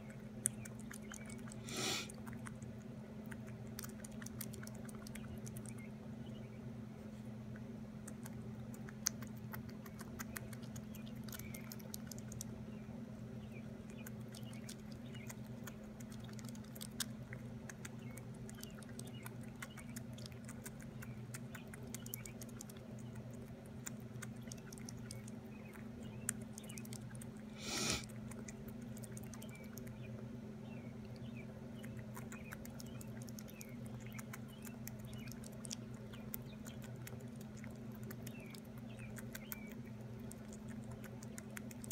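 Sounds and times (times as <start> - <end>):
squirrel teeth clicking and smacking: 0.0 - 6.4, 7.4 - 12.8, 13.4 - 41.9
steady low hum: 0.0 - 41.9.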